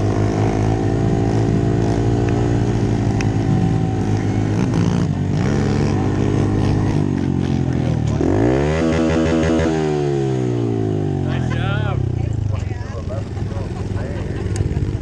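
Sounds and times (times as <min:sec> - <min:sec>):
pit bike engines running: 0:00.0 - 0:15.0.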